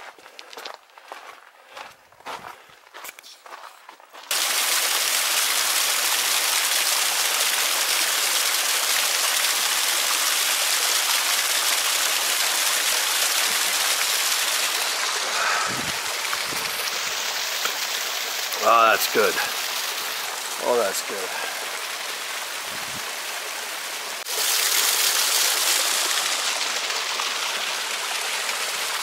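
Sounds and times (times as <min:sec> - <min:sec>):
stream splashing over rock: 0:04.3 - 0:29.0.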